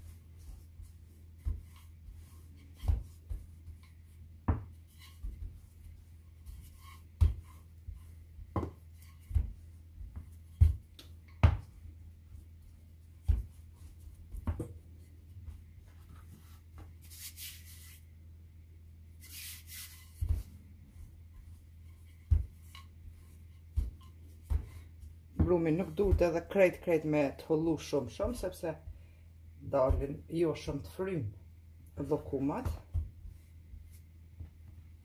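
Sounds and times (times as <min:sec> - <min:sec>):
hands rustling on dough: 0:00.0 - 0:26.9, 0:32.0 - 0:35.0
low steady hum: 0:00.0 - 0:35.0.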